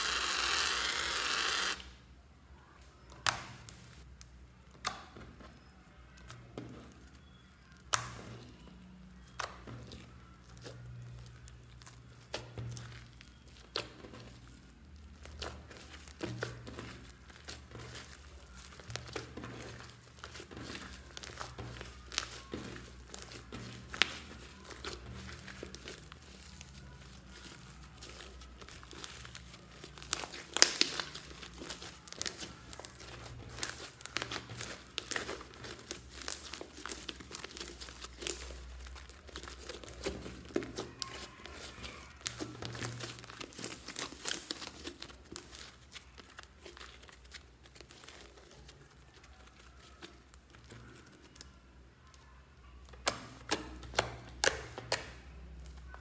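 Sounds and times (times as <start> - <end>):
slime crackling and popping: 3.1 - 51.6, 52.8 - 56.0.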